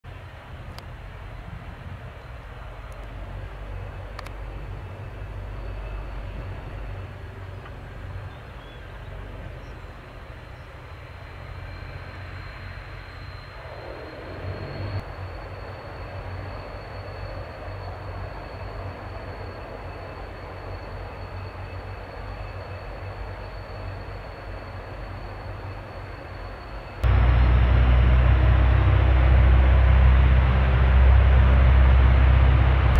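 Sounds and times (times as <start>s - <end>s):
propeller drone: 0.1s - 22.1s, 26.8s - 32.9s
turboprop engines running: 0.1s - 32.9s.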